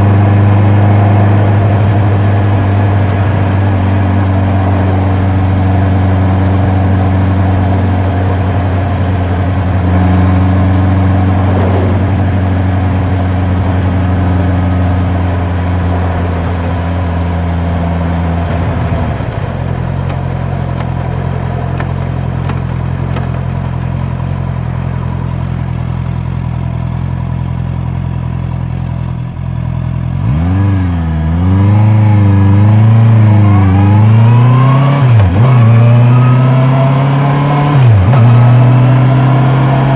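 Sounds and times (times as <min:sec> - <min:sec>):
motorcycle engine revving: 0:00.0 - 0:28.5, 0:29.3 - 0:39.9.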